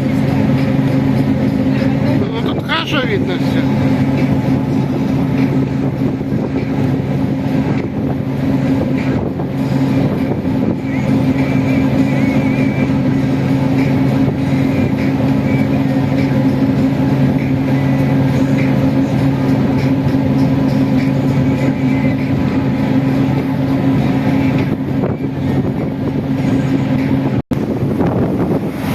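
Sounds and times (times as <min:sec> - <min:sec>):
even rushing noise: 0:00.0 - 0:28.9
ship engine drone: 0:00.0 - 0:28.9.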